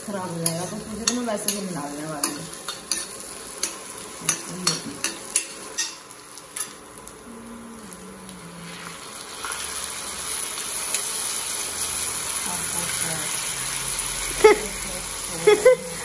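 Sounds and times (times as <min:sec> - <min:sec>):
ladle scraping frying onions: 0:00.0 - 0:07.1, 0:08.6 - 0:16.0
food sizzling in pan: 0:00.0 - 0:16.0.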